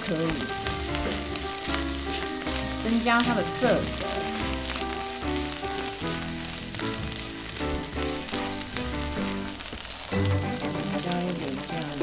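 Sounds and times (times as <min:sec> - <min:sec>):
background music with melody: 0:00.0 - 0:12.0
food sizzling in oil: 0:00.0 - 0:12.0.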